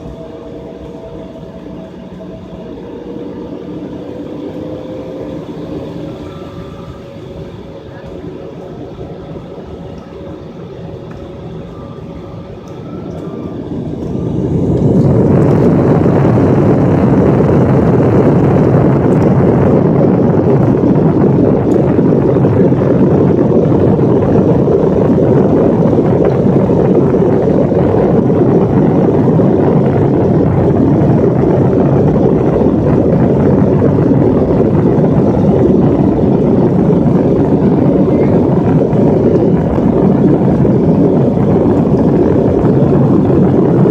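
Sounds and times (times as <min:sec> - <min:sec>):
jet engines spooling up and roaring: 0:00.0 - 0:43.9.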